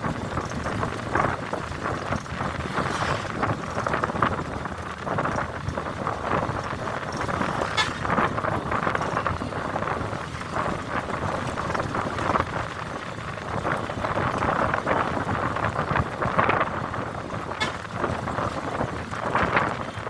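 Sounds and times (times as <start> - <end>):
bus engine and road noise: 0.0 - 20.0
wind: 0.0 - 20.0.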